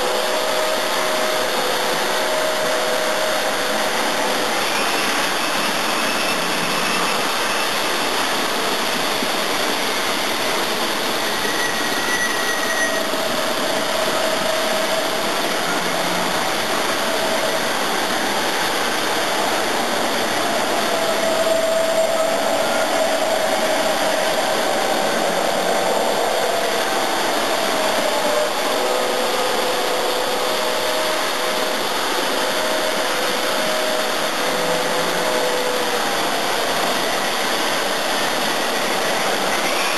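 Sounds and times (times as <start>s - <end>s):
model train whirring on track: 0.0s - 39.9s.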